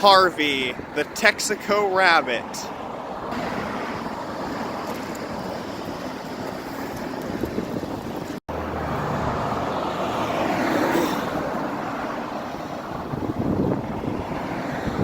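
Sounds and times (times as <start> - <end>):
car passing: 2.4 - 15.0.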